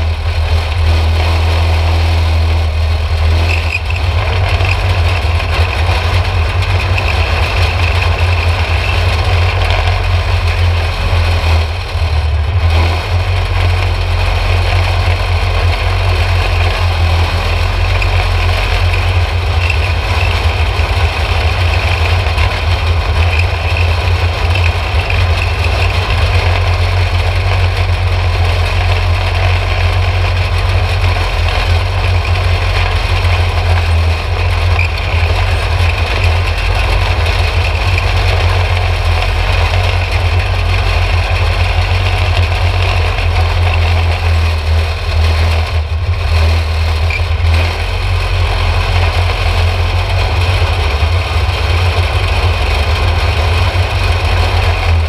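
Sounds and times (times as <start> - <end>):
go-kart engine running: 0.0 - 55.0
rattle: 0.0 - 55.0.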